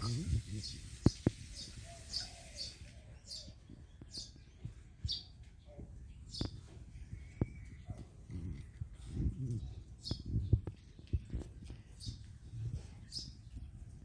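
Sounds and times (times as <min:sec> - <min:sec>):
bird chirping: 0:00.1 - 0:14.0.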